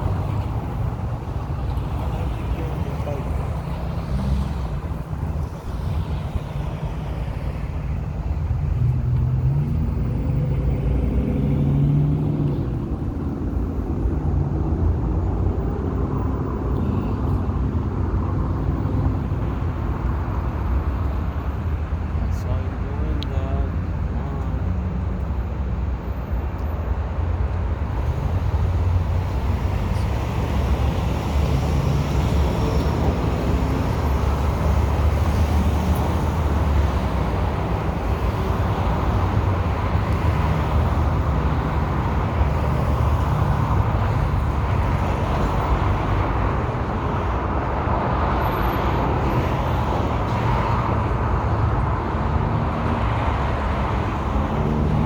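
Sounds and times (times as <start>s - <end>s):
continuous rushing noise: 0.0s - 55.0s.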